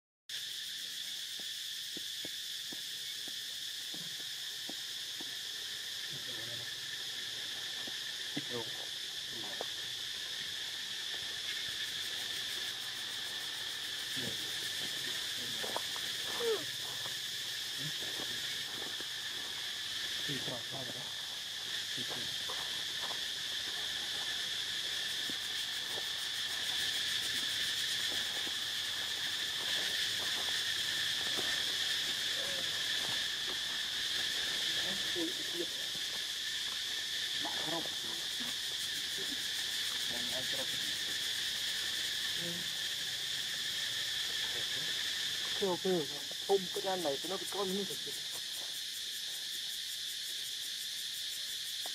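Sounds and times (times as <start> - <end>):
high-pitched insect chorus: 0.3 - 51.9.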